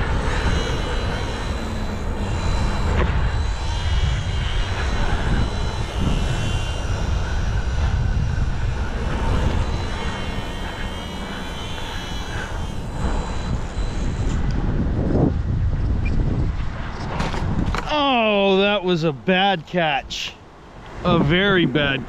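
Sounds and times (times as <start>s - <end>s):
model plane motor whine: 0.0s - 17.9s
wind buffeting microphone: 0.0s - 22.0s.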